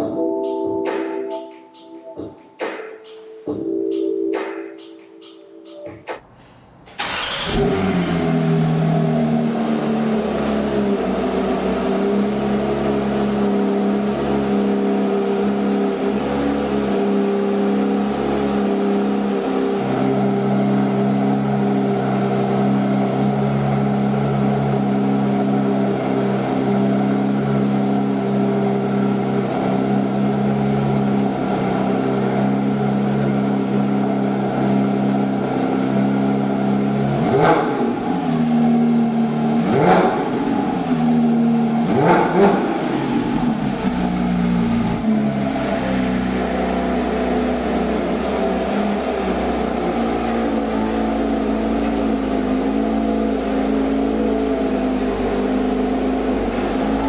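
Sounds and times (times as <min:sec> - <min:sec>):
car engine cold start: 0:06.2 - 0:57.0
car engine idling: 0:06.2 - 0:57.0.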